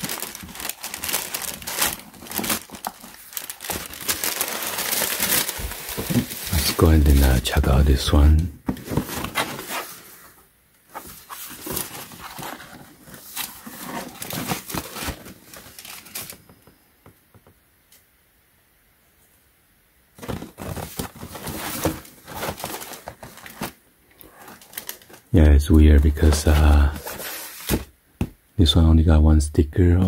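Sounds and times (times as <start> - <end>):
hands handling cardboard box: 0.0 - 7.4, 8.2 - 16.8, 20.2 - 28.3.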